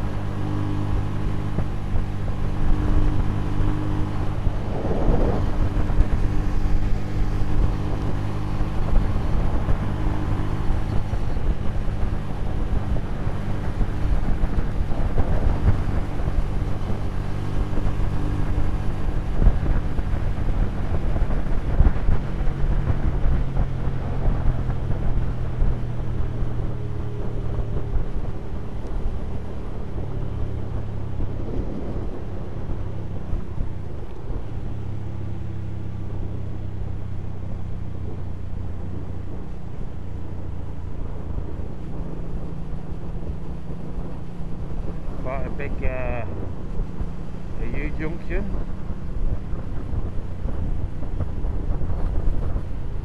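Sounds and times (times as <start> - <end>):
motorcycle engine cruising: 0.0 - 53.0
wind rushing over microphone: 0.0 - 53.0.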